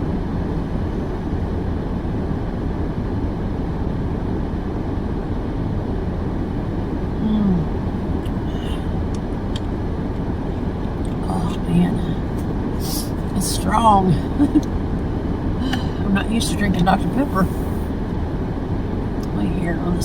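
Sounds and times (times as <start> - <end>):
car engine idling: 0.0 - 20.0
falling hum: 0.0 - 20.0.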